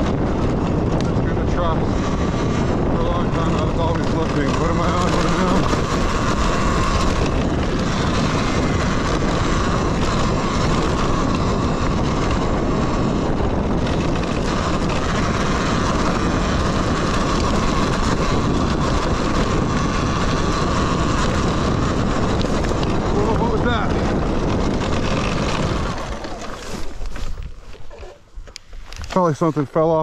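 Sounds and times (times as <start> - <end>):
electric motor whine: 0.0 - 30.0
wind and tyre noise: 0.0 - 30.0.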